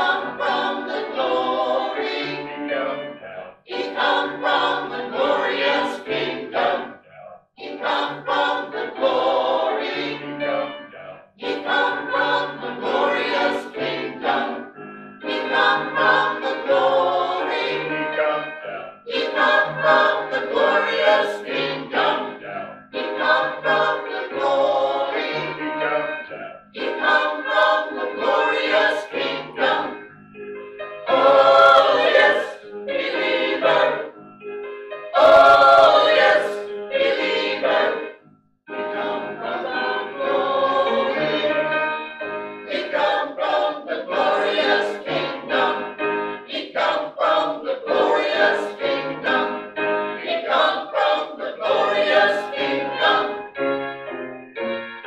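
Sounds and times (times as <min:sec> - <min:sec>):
mixed choir singing: 0:00.0 - 0:30.1, 0:31.0 - 0:34.2, 0:35.1 - 0:38.2, 0:38.8 - 0:53.6.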